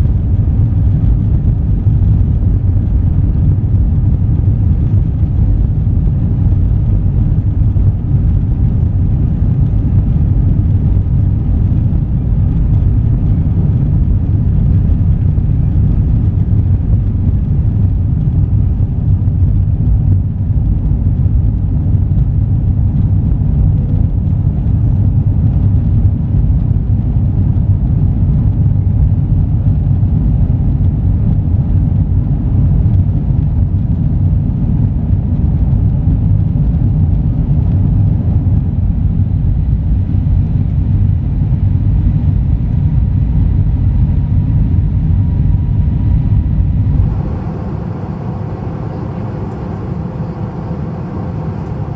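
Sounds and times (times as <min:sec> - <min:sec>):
airliner engines rumbling: 0:00.0 - 0:51.9.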